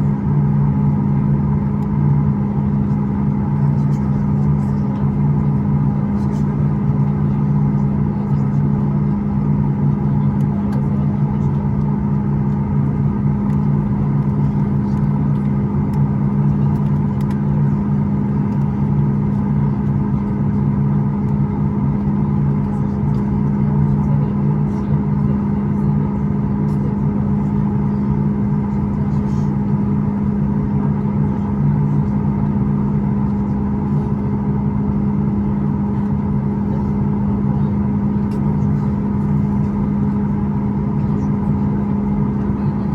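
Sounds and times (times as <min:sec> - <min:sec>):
jet engine cabin drone: 0:00.0 - 0:42.9.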